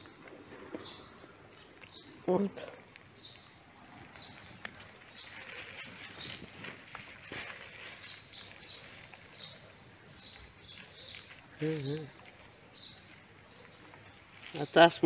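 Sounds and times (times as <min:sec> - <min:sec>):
faint rustling: 0:00.0 - 0:15.0
small birds chirping: 0:00.0 - 0:15.0.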